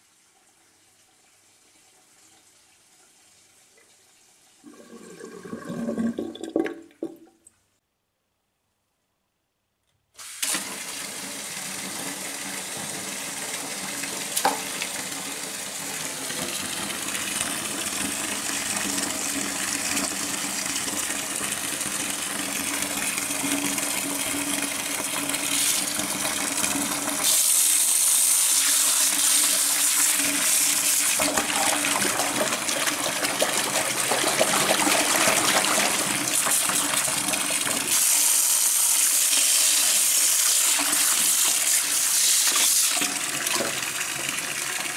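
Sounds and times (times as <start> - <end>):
tap water pouring into bucket: 0.4 - 7.4, 10.2 - 44.9.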